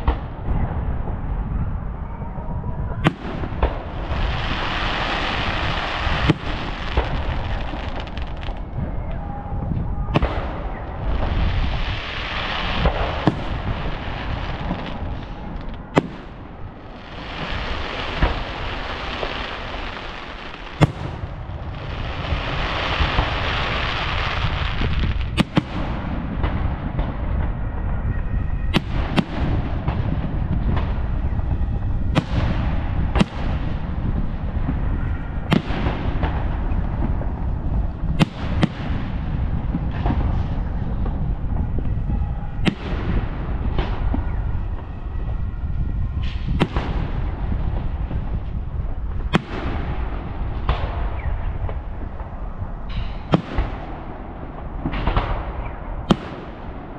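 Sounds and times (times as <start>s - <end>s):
firework bangs: 3.0s - 9.0s, 10.1s - 27.8s, 28.7s - 45.4s, 46.1s - 56.9s.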